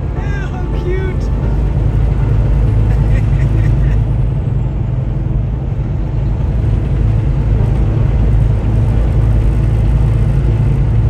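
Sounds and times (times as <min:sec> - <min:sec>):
truck engine and tyre drone: 0:00.0 - 0:11.0.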